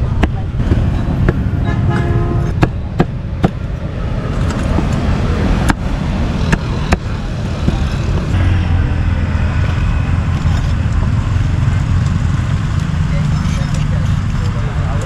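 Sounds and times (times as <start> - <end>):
street traffic: 0.0 - 15.0
vehicle engine rumble: 0.0 - 15.0.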